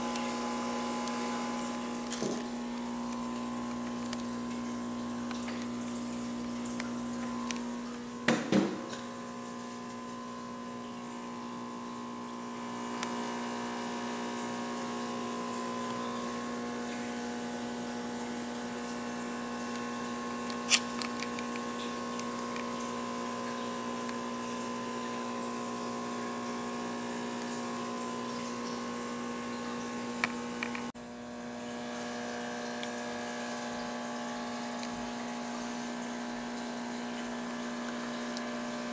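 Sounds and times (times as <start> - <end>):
aquarium pump humming: 0.0 - 38.9.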